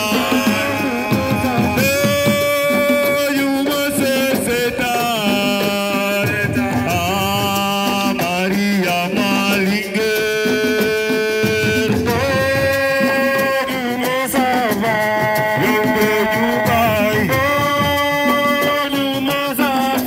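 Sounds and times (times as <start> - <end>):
continuous musical accompaniment: 0.0 - 20.0.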